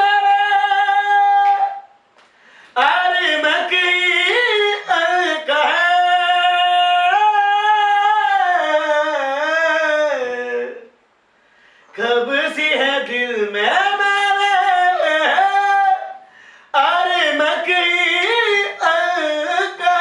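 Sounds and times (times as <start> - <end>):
person singing unaccompanied: 0.0 - 2.0, 2.7 - 11.0, 11.9 - 20.0.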